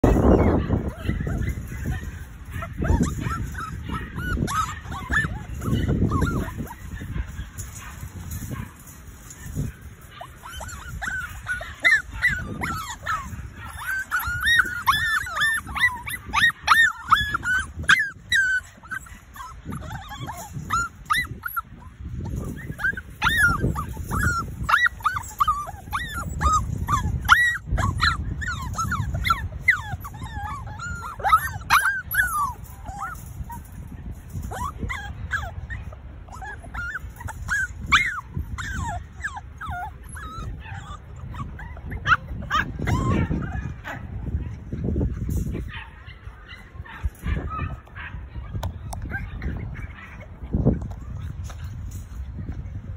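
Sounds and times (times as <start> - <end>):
puppies whimpering and yipping: 0.0 - 52.9.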